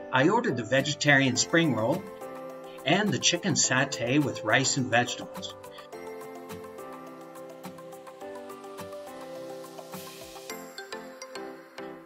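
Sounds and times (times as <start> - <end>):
background music sustained notes: 0.0 - 12.0.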